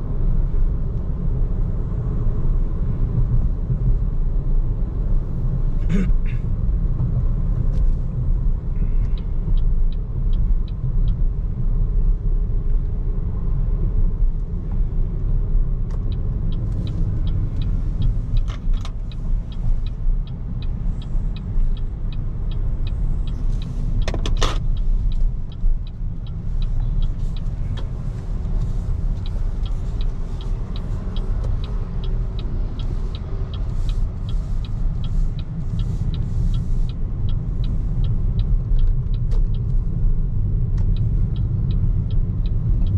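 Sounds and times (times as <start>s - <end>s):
tyre and road noise: 0.0s - 42.9s
light regular ticking: 6.6s - 42.9s.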